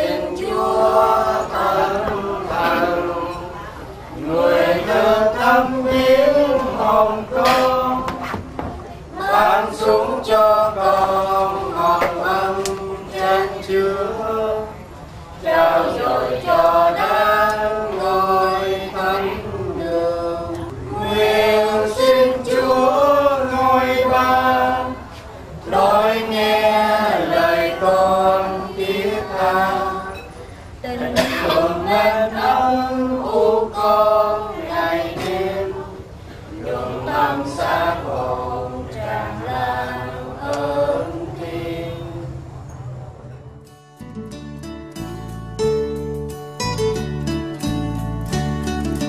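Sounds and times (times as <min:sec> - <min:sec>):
group chanting a prayer: 0:00.0 - 0:42.7.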